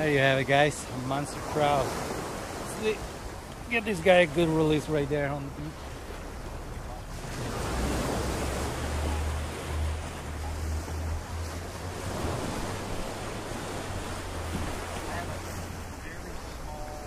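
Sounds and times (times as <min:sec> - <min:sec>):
surf waves breaking: 0:00.0 - 0:17.0.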